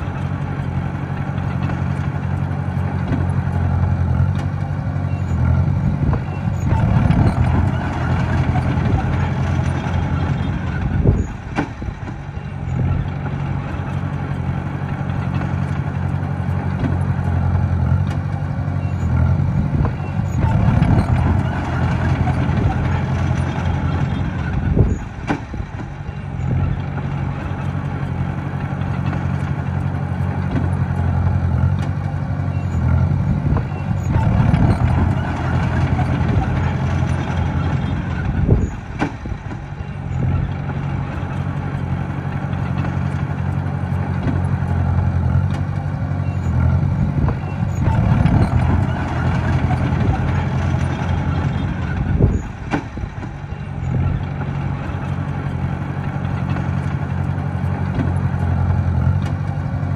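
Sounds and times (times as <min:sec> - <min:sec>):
bulldozer diesel engine working: 0:00.0 - 0:59.9.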